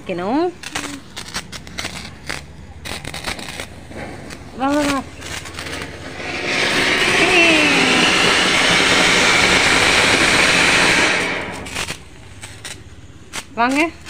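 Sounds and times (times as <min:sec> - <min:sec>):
fountain firework hissing: 0:00.0 - 0:14.0.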